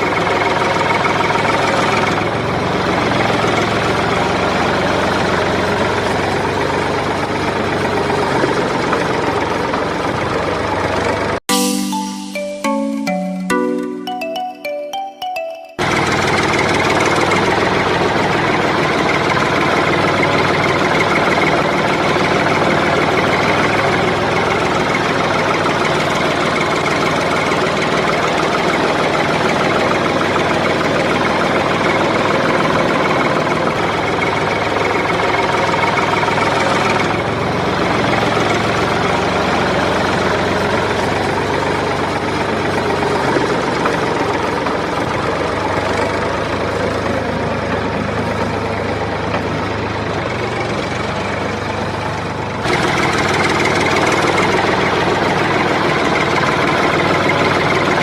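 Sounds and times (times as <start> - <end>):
engine running: 0.0 - 11.4, 15.8 - 58.0.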